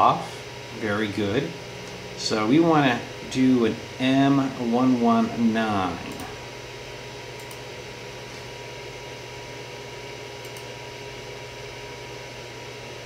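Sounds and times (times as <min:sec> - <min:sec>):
printer cooling fan whirring: 0:00.0 - 0:13.0.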